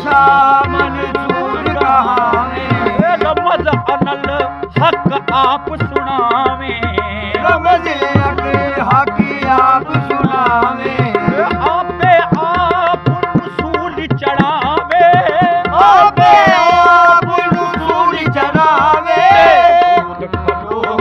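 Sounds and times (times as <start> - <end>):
tabla drumming: 0.0 - 21.0.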